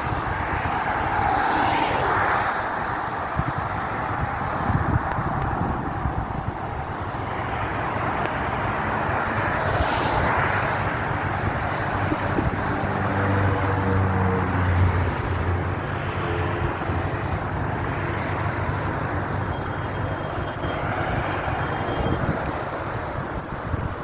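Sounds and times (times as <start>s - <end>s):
steady rushing roar: 0.0s - 24.0s
vehicle engine humming: 0.0s - 24.0s.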